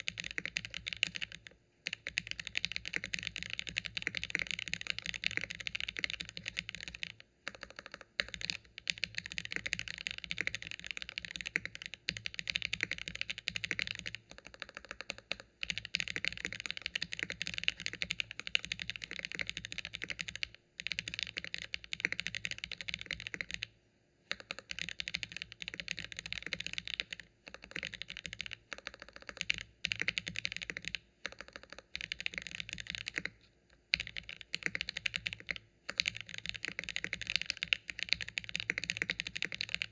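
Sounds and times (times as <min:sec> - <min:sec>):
fast mechanical keyboard typing: 0:00.0 - 0:23.7, 0:24.3 - 0:39.9.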